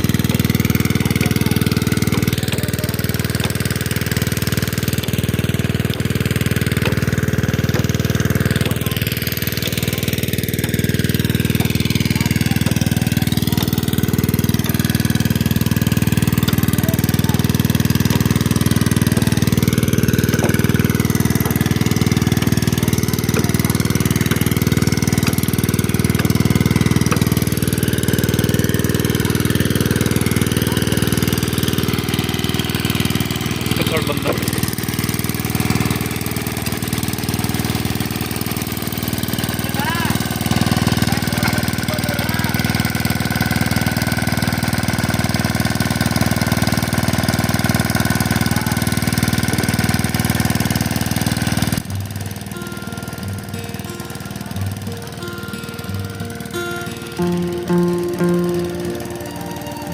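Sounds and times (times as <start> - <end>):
petrol engine running: 0.0 - 59.9.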